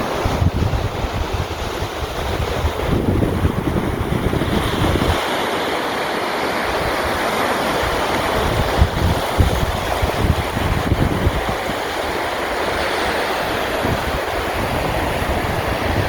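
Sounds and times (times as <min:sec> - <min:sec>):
wind rumbling on microphone: 0:00.0 - 0:05.4, 0:06.6 - 0:16.0
sea waves washing on shore: 0:00.0 - 0:16.0.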